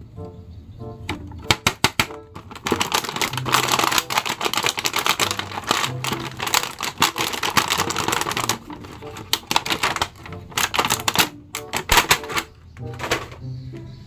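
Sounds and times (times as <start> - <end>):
faint background music: 0.0 - 14.0
plastic packaging crackling: 1.1 - 13.4.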